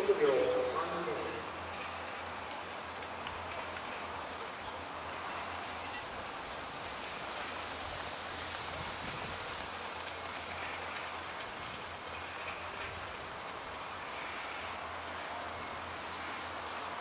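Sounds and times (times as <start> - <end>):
stadium background hiss: 0.0 - 17.0.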